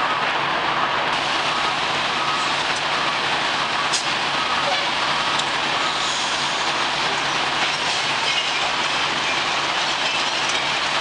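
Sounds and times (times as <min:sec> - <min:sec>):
garbage truck dumping load: 0:01.2 - 0:11.0.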